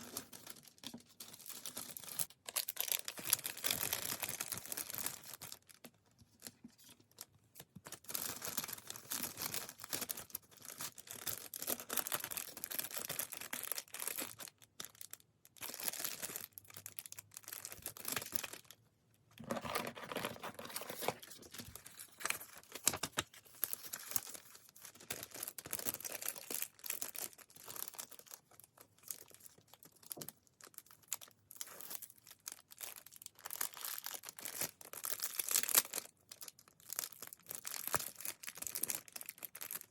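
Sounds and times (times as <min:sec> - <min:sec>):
packaging crinkling and tearing: 0:00.0 - 0:05.9, 0:06.8 - 0:18.8, 0:19.4 - 0:39.9.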